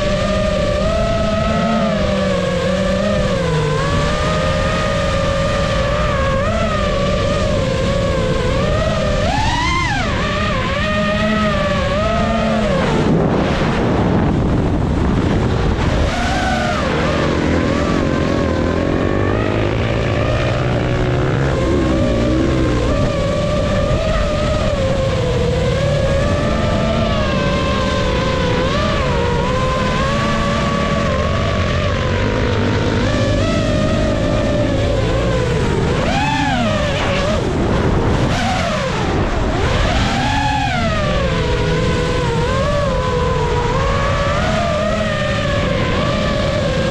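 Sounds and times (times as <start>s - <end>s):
drone propellers whining: 0.0s - 46.9s
motors revving: 0.0s - 46.9s
wind rumble: 0.0s - 46.9s.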